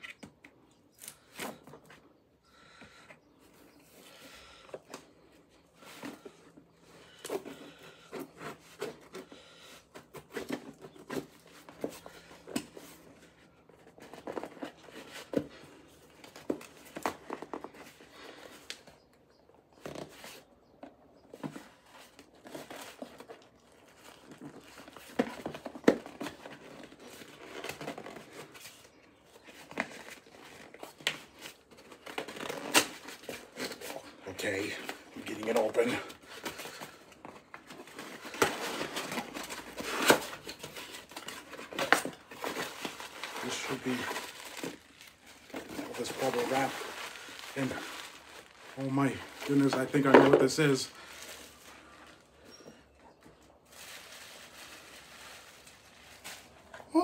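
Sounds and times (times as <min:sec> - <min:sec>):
tape and cardboard crinkling: 0:00.0 - 0:57.0.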